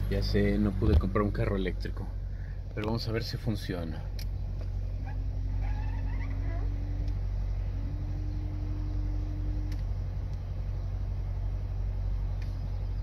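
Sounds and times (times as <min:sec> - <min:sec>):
car engine idling: 0:00.0 - 0:13.0
wiper motor humming: 0:00.0 - 0:13.0.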